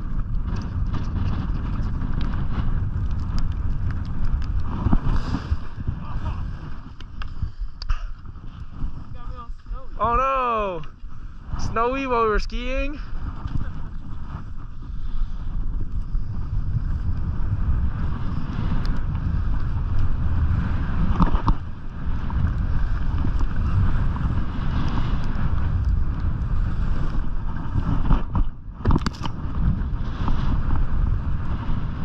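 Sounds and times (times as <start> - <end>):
skis carving across packed snow: 0.0 - 28.4, 29.1 - 32.0
wind buffeting microphone: 0.0 - 32.0.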